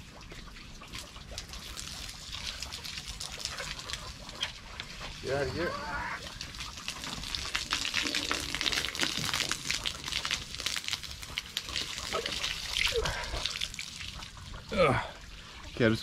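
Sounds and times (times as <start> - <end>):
hose water splashing on dirt: 0.0 - 16.0.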